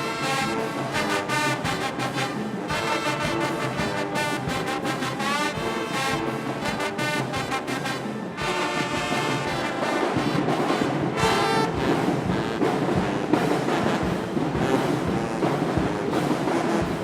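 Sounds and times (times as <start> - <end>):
brass section chords: 0.0 - 17.0
drums and percussion: 0.0 - 17.0.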